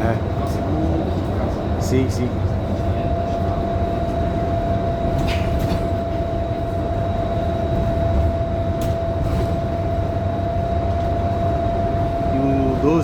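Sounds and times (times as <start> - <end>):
bus diesel engine: 0.0 - 13.0
constant whine: 0.0 - 13.0.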